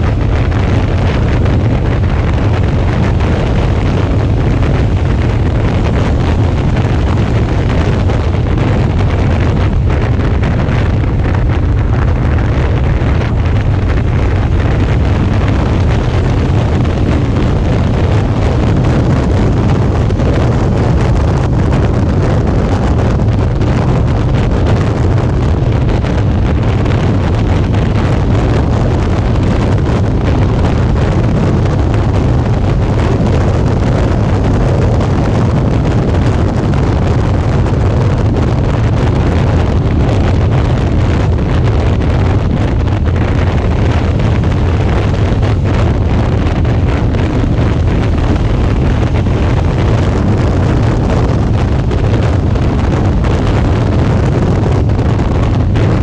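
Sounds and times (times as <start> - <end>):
motorcycle running: 0.0 - 56.0
road noise: 0.0 - 56.0
wind rushing over microphone: 0.0 - 56.0.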